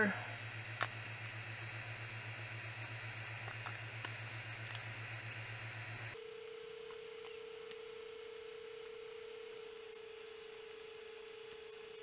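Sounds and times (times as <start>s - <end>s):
pulsing electrical hum: 0.0s - 12.0s.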